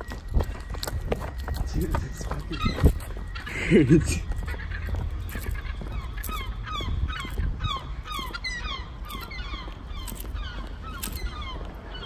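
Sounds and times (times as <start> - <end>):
bird alarm calls: 0.0 - 12.0.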